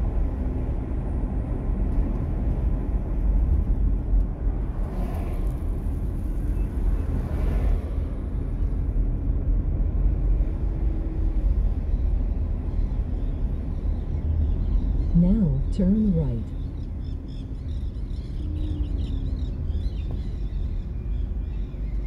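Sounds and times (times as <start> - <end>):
car cabin road and engine rumble: 0.0 - 22.0.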